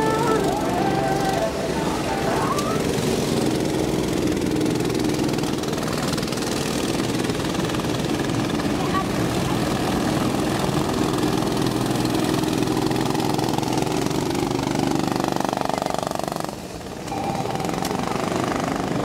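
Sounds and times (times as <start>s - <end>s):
go-kart engines passing: 0.0s - 19.0s.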